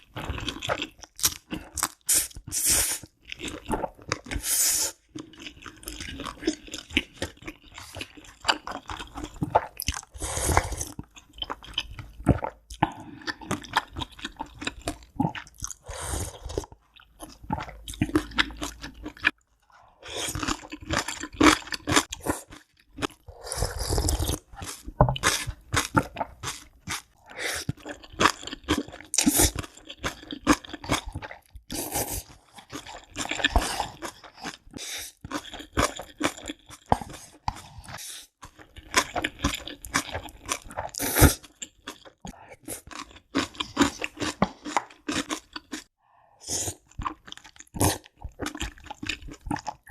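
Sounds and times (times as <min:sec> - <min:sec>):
crunchy chewing of food: 0:00.0 - 0:46.0, 0:46.6 - 0:49.9.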